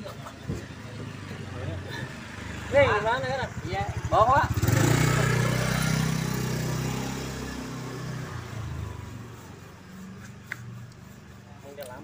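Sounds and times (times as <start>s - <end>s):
motorcycle engine passing by: 0.5s - 11.4s.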